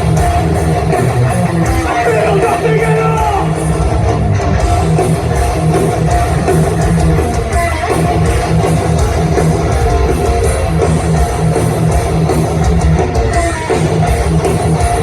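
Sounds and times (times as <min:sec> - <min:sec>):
bass: 0:00.0 - 0:15.0
distorted electric guitars: 0:00.0 - 0:15.0
drums: 0:00.0 - 0:15.0.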